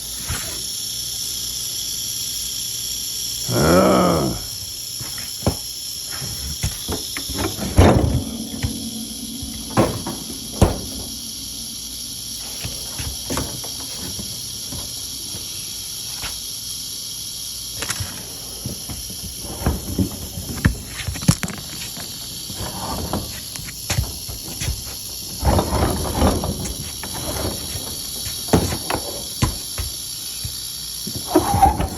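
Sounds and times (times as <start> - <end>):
rattlesnake rattling: 0.0 - 31.9.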